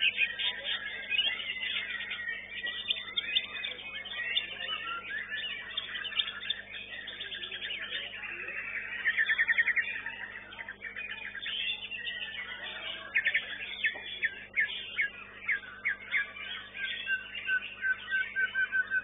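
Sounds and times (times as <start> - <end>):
songbird whistling and trilling: 0.0 - 19.0.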